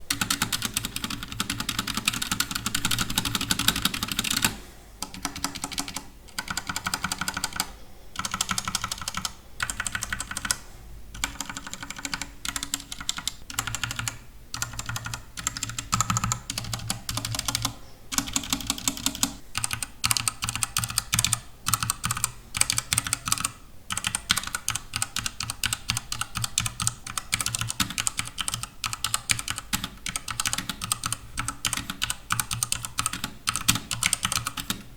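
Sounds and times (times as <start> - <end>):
mechanical keyboard typing: 0.1 - 10.6, 11.2 - 34.9.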